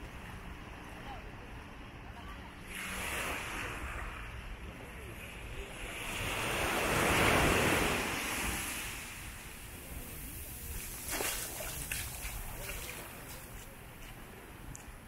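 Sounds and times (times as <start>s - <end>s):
waves breaking on beach: 0.1s - 15.0s.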